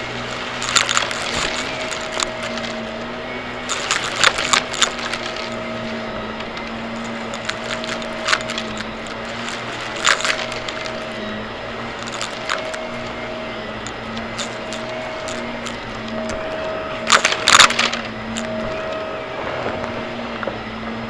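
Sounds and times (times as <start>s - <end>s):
debris crackling and rattling: 0.0s - 20.6s
vacuum cleaner humming: 0.0s - 21.0s.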